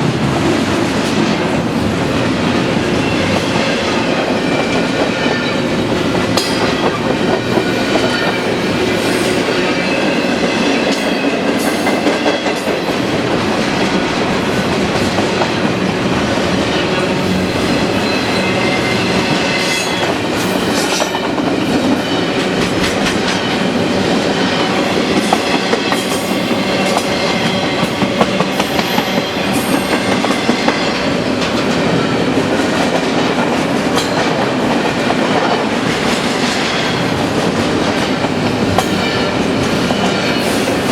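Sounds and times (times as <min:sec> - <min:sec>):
train rolling rumble: 0:00.0 - 0:40.9
train wheels clacking over joints: 0:03.0 - 0:40.9.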